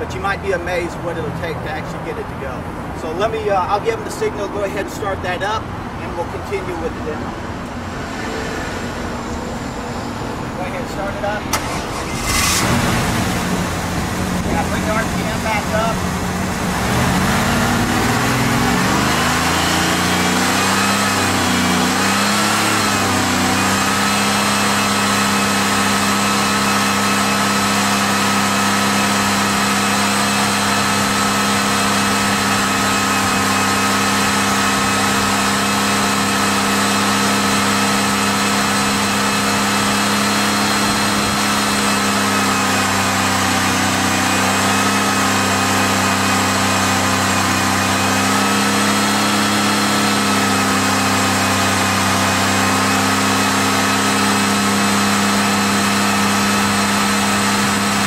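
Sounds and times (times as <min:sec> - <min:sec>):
car engine at fast idle: 0:08.9 - 0:58.0.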